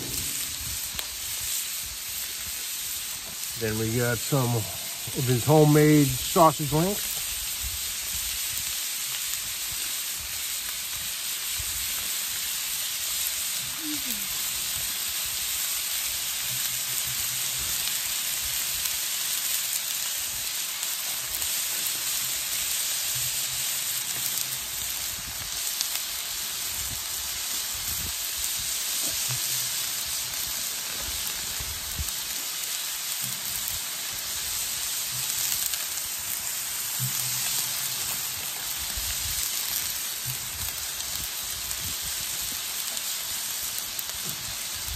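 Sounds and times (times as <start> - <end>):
sausage sizzling on griddle: 0.0 - 44.9.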